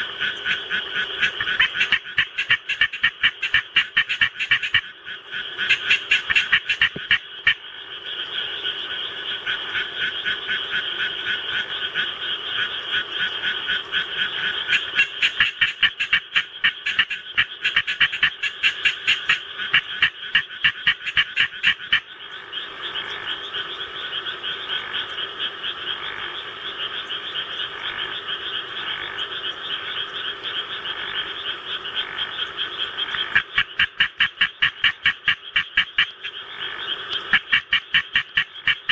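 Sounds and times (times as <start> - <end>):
frog chorus: 0.0 - 38.9
tree frog raspy croaks: 0.0 - 38.9.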